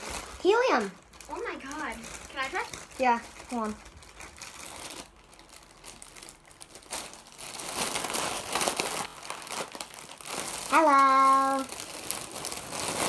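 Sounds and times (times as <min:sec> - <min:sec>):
foil balloon crinkling: 0:00.0 - 0:13.0.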